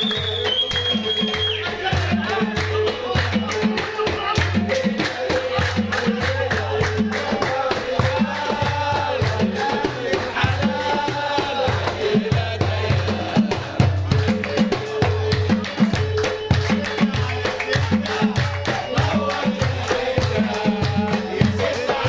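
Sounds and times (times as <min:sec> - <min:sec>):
repeating drum rhythm: 0:00.0 - 0:22.0.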